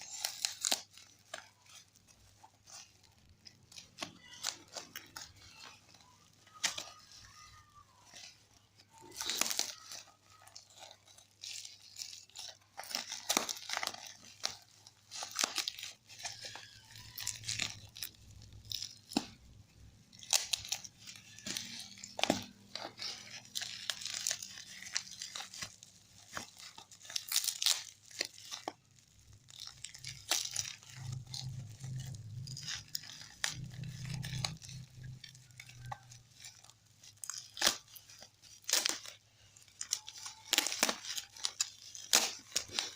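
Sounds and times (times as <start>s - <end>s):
packaging tearing: 0.0s - 42.9s
plastic wrapping crinkling: 0.0s - 42.9s.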